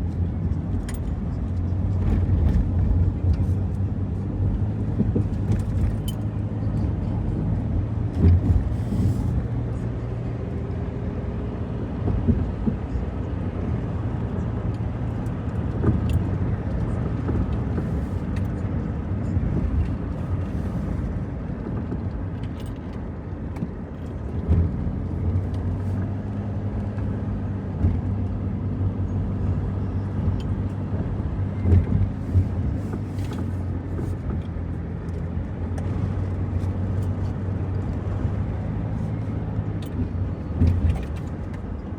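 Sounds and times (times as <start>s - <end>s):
car engine and road hum: 0.0s - 41.9s.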